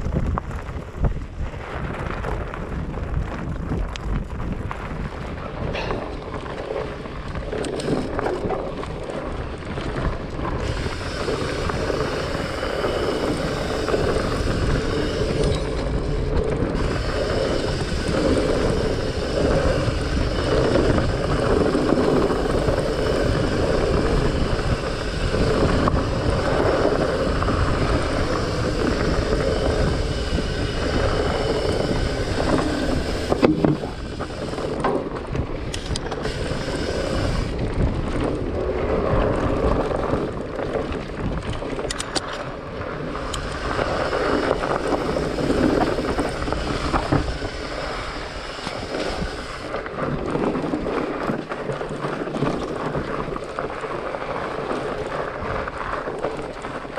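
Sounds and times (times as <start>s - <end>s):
bike rattling: 0.0s - 56.9s
fat tyres rumbling on dirt: 0.0s - 56.9s
wind buffeting microphone: 0.0s - 56.9s.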